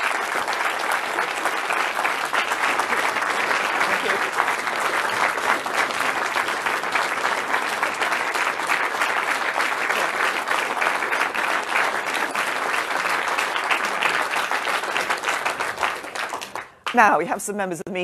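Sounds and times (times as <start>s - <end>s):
crowd applauding: 0.0s - 17.2s.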